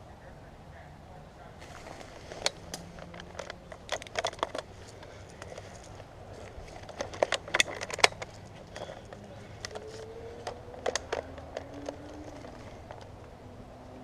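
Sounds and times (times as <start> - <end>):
sharp clicks and crackles: 1.6 - 13.4.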